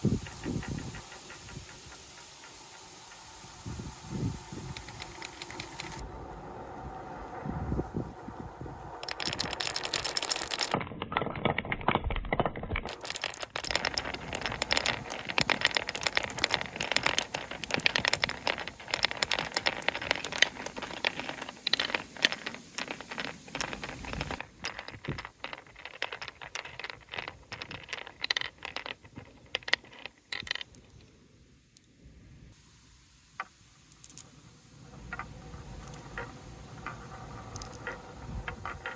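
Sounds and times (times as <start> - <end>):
balls rattling down wooden track: 0.0 - 6.0, 7.7 - 31.1, 33.4 - 38.9.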